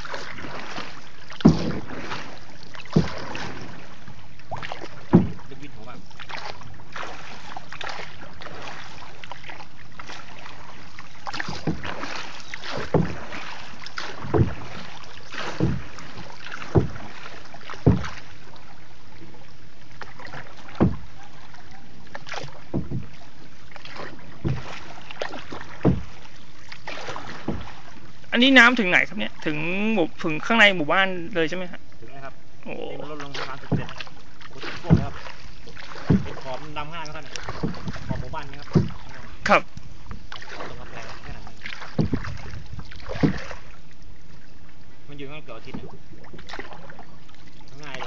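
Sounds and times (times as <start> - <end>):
paddle splashing water: 0.0 - 48.0.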